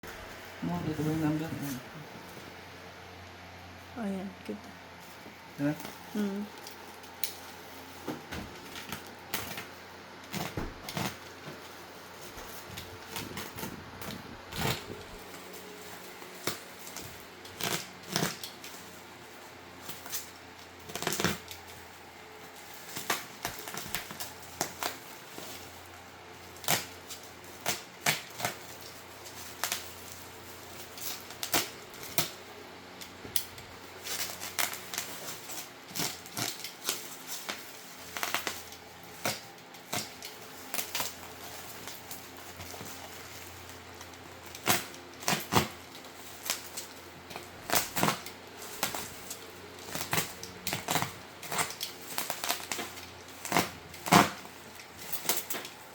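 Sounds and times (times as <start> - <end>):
packaging rustling: 4.9 - 55.9.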